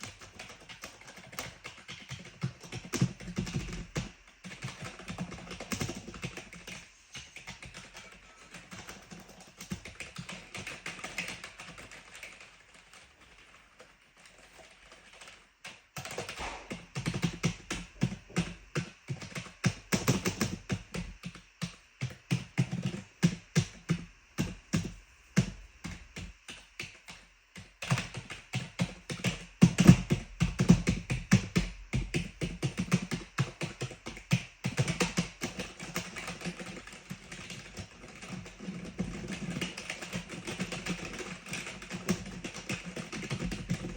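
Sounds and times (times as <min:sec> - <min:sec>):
typing on clicky keyboard: 0:00.0 - 0:43.9.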